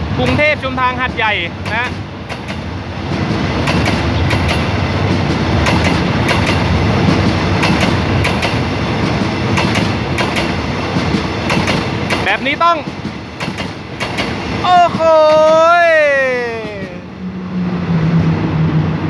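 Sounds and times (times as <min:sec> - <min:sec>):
train wheels rumbling on rails: 0:00.0 - 0:19.0
wheels clacking over track joints: 0:00.2 - 0:15.7.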